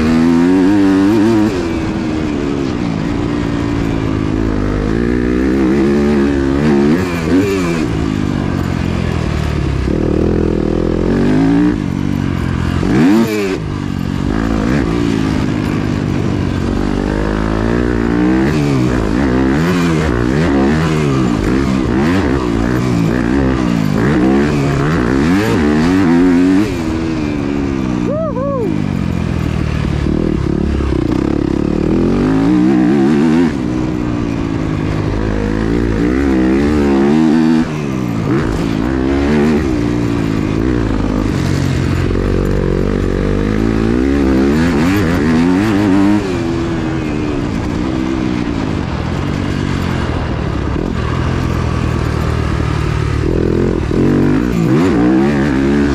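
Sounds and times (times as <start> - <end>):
motocross engine revving: 0.0 - 55.9.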